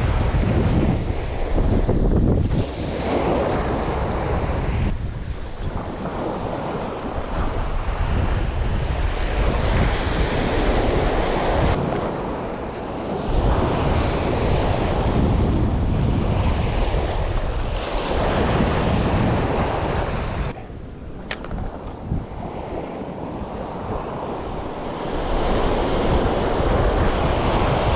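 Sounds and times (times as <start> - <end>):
surf breaking on a beach: 0.0 - 27.9
wind buffeting microphone: 0.0 - 27.9.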